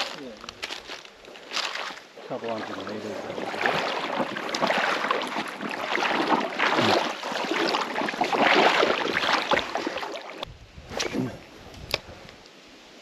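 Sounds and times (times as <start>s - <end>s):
wading through creek water: 0.0s - 11.5s.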